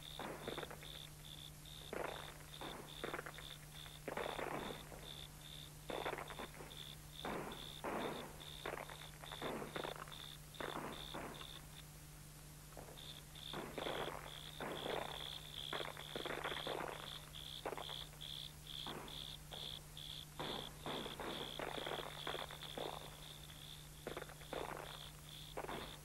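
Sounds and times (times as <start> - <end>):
cricket chirping: 0.0 - 11.9, 12.7 - 26.0
steady low hum: 0.0 - 26.0.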